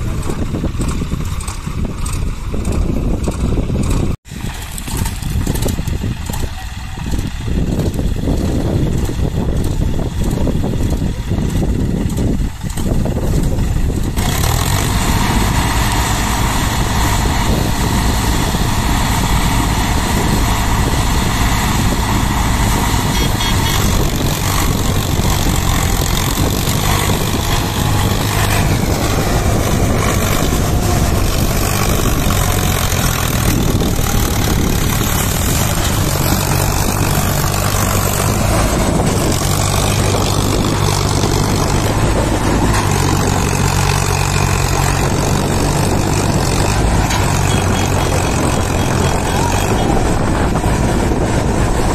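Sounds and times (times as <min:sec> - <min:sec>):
diesel tractor engines straining: 0:00.0 - 0:51.9.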